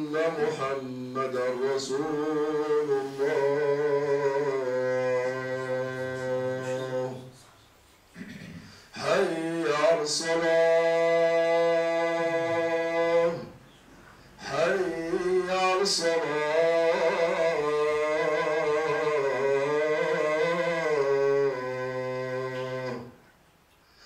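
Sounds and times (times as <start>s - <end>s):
man chanting call to prayer: 0.0s - 7.4s, 9.0s - 13.7s, 14.4s - 23.2s.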